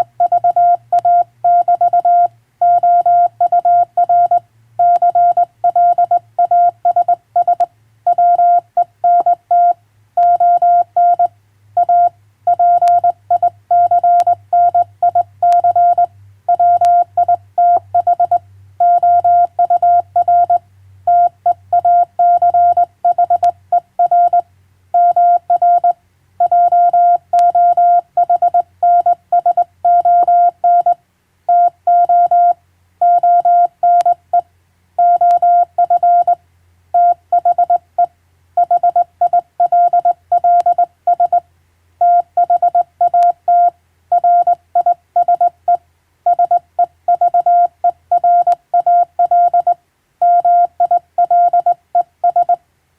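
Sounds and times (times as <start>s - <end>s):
morse code sidetone beeps: 0.0s - 24.4s, 25.0s - 34.4s, 35.0s - 36.4s, 37.0s - 41.4s, 42.0s - 52.6s.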